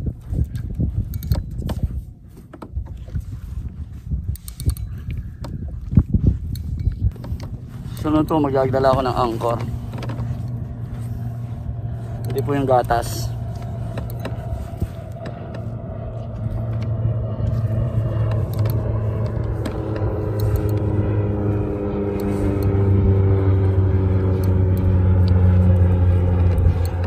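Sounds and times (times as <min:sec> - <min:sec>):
steady mechanical hum: 0:00.0 - 0:27.0
wind rumbling on microphone: 0:00.0 - 0:27.0.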